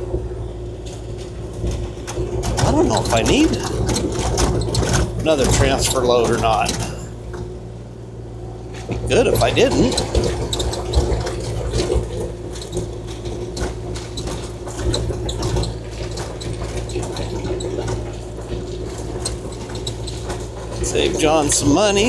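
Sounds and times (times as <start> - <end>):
diesel engine hum: 0.0 - 22.0
hydraulic whine: 0.0 - 22.0.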